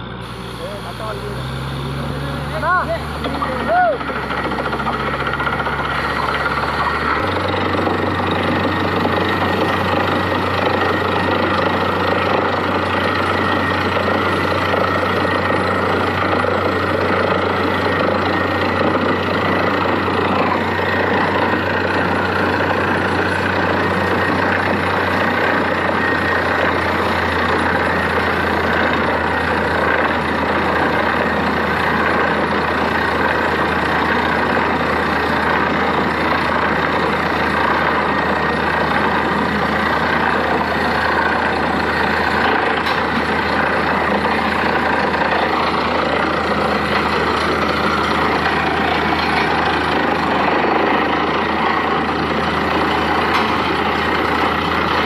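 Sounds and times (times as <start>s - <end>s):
air compressor: 0.0s - 55.0s
drilling rig engine running: 0.0s - 55.0s.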